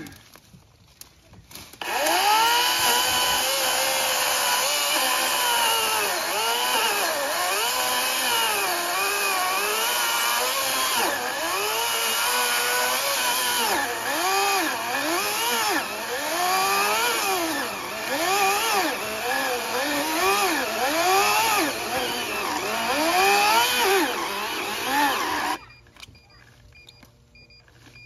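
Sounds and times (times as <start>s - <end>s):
electric chainsaw cutting log: 1.8s - 25.6s.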